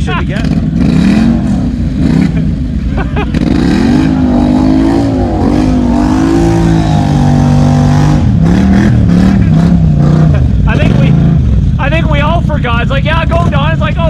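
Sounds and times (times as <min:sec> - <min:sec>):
atv engine revving: 0:00.0 - 0:14.0
vehicle churning through mud: 0:00.3 - 0:12.4.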